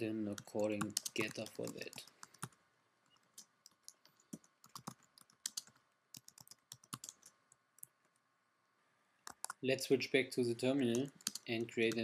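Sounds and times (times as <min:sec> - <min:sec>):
faint typing on keyboard: 0:00.0 - 0:08.3, 0:09.2 - 0:09.6, 0:10.6 - 0:12.0.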